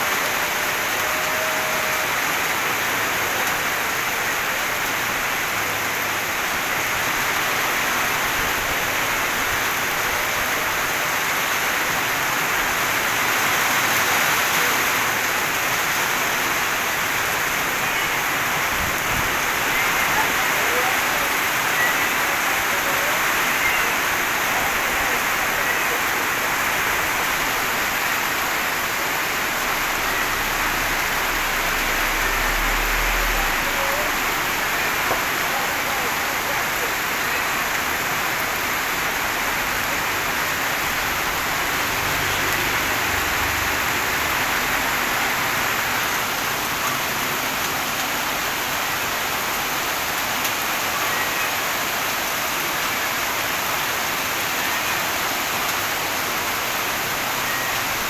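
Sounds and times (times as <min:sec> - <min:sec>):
heavy rain on pavement: 0:00.0 - 0:58.0.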